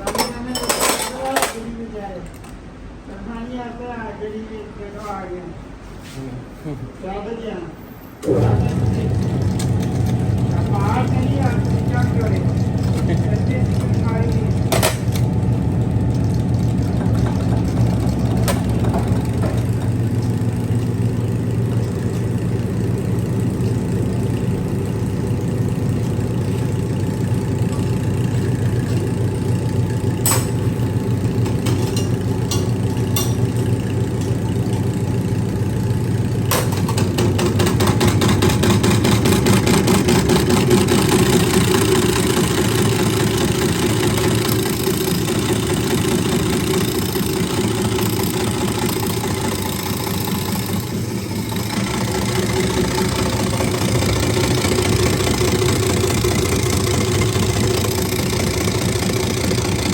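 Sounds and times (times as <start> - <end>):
tractor diesel engine: 8.2 - 59.9.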